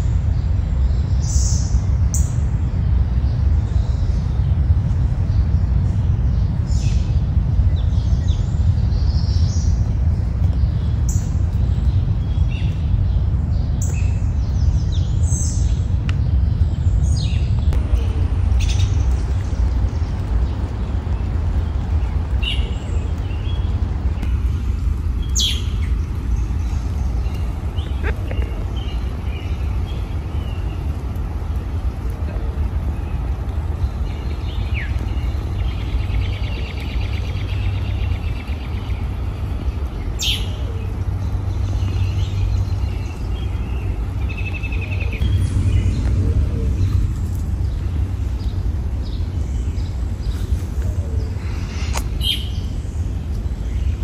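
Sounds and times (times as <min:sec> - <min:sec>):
small birds chirping and trilling: 0:00.0 - 0:54.0
steady low rumble: 0:00.0 - 0:54.0.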